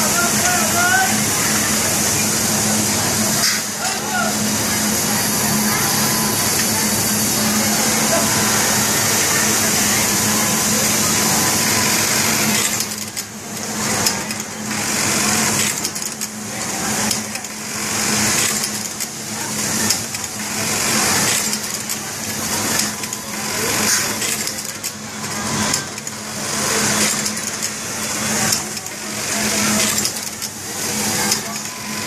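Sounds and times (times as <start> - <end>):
factory machinery hum: 0.0 - 32.0.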